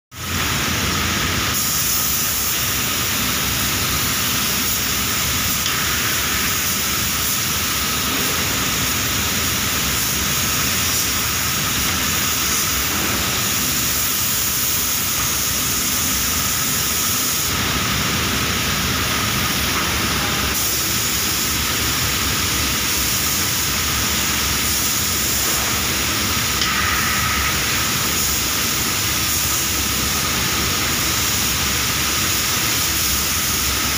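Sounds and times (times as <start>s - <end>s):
spray gun hissing: 0.3s - 33.9s.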